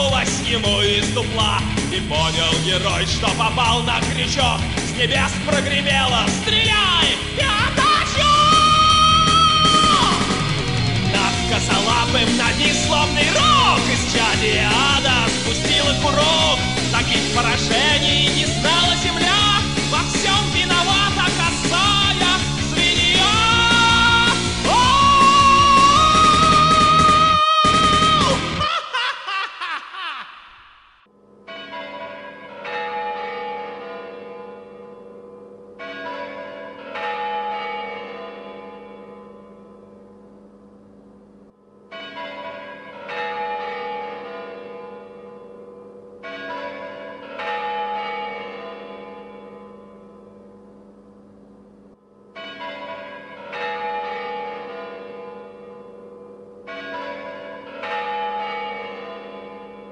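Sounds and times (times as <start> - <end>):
church bells tolling: 0.0 - 25.8, 31.1 - 59.9.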